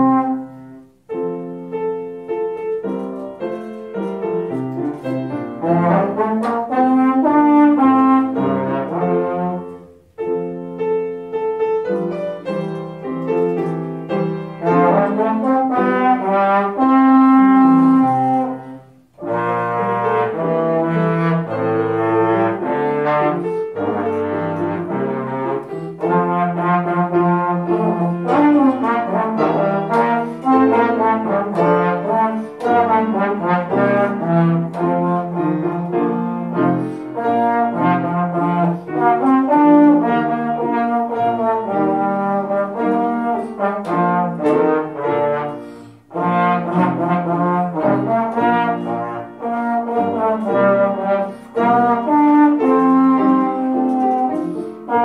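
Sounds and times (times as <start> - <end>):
trombone melody: 0.0 - 55.0
upright piano: 0.0 - 55.0.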